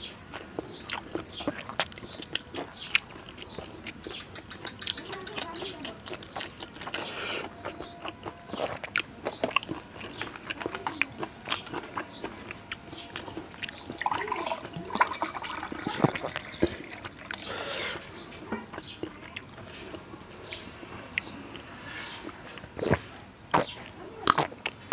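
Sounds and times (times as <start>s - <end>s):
person chewing and smacking: 0.0s - 24.9s
food crunches: 0.3s - 24.9s.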